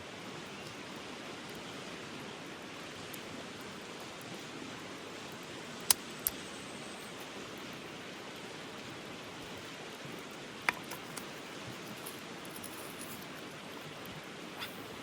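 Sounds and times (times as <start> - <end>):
flowing stream: 0.0 - 15.0.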